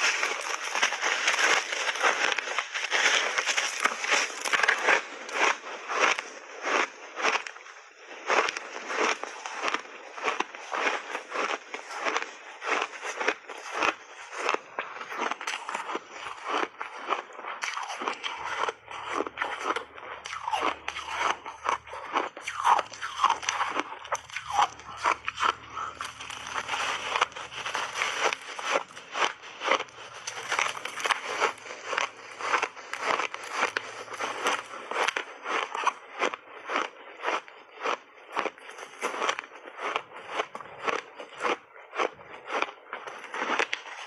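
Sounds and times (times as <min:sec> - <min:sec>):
chewing ice: 0:00.0 - 0:44.0.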